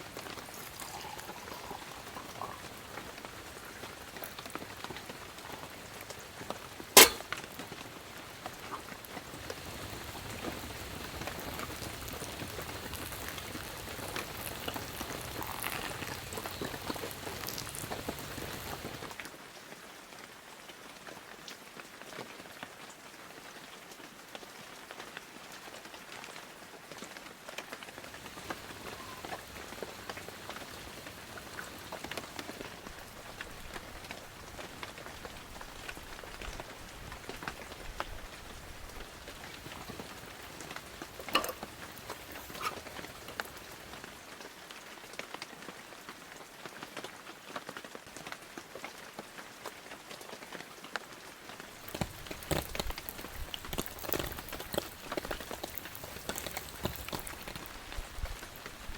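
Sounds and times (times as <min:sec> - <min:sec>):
raindrops hitting close by: 0:00.0 - 0:19.6, 0:23.5 - 0:58.9
steady rain falling: 0:00.0 - 0:58.9.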